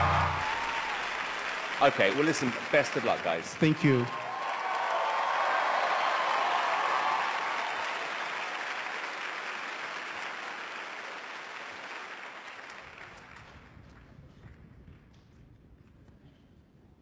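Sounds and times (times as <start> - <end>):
audience applauding: 0.0 - 13.7.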